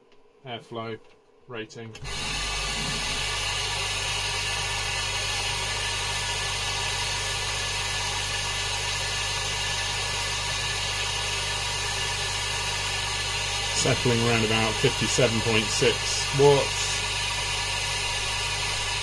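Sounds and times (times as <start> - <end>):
air pump humming: 1.9 - 19.0
air pump hiss: 2.0 - 19.0.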